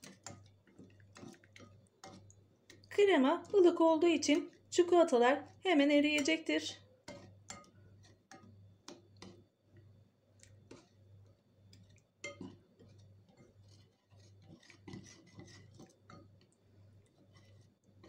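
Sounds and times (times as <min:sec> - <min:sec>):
whisk ticking against a bowl: 0:00.0 - 0:09.8, 0:10.4 - 0:16.6.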